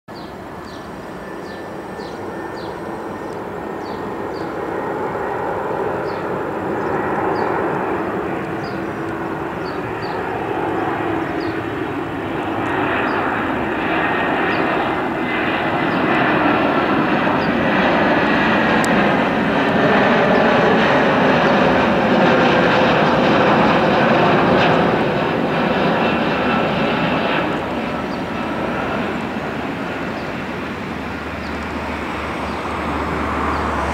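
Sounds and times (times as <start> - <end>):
jet engines rushing: 0.1 - 33.9.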